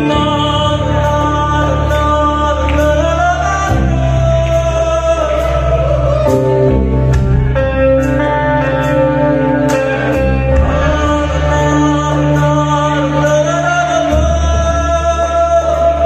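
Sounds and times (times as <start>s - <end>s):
live band playing slow song: 0.0s - 16.0s
person singing: 0.0s - 16.0s.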